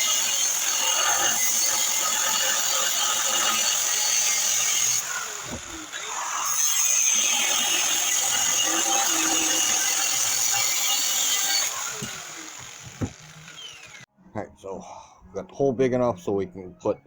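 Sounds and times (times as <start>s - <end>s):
grinder grinding metal: 0.0s - 14.1s.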